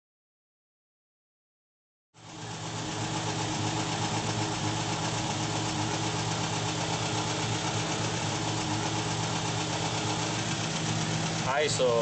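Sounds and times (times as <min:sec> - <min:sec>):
car engine idling: 0:02.2 - 0:12.0.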